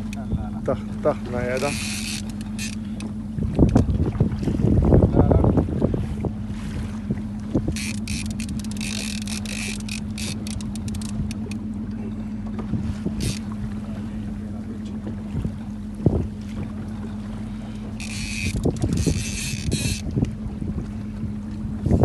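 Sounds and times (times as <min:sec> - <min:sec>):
boat motor humming: 0:00.0 - 0:22.0
knocks against boat: 0:00.0 - 0:22.0
water splashing against hull: 0:00.0 - 0:22.0.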